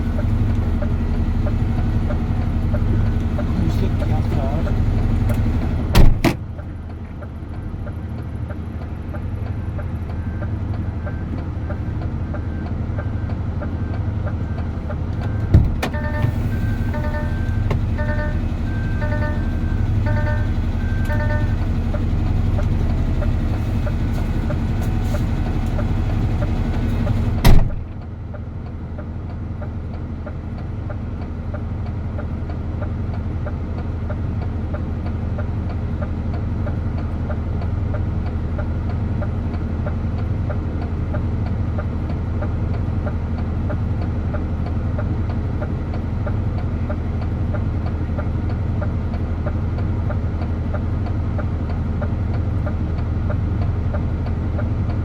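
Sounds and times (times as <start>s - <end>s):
truck engine droning: 0.0s - 55.0s.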